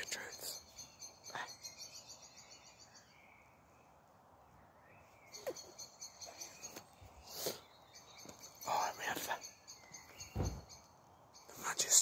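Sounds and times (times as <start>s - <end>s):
bird chirping: 0.0s - 12.0s
faint outdoor background: 0.0s - 12.0s.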